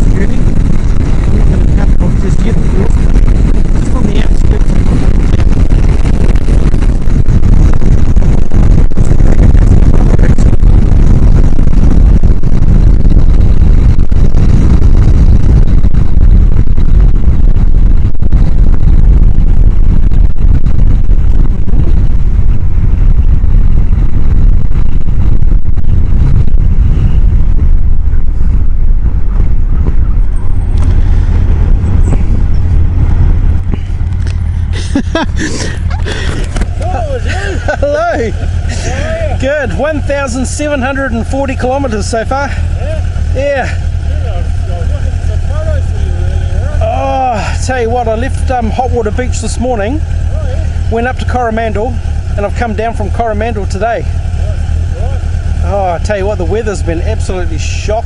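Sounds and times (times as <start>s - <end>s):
motorcycle ride noise: 0.0s - 58.0s
wind buffeting microphone: 0.0s - 58.0s.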